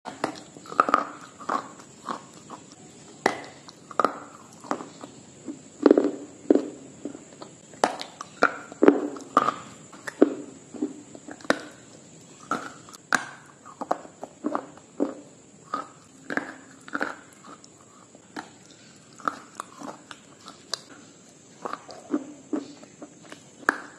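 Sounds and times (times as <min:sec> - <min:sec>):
crunchy biting and chewing: 0:00.0 - 0:23.9
faint steady high hiss: 0:00.1 - 0:23.9.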